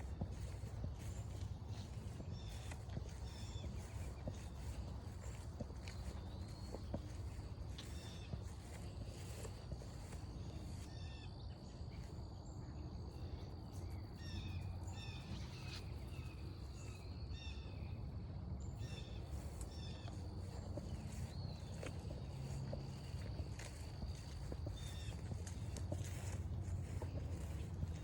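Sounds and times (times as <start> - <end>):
forest birds chirping: 0.0 - 28.0.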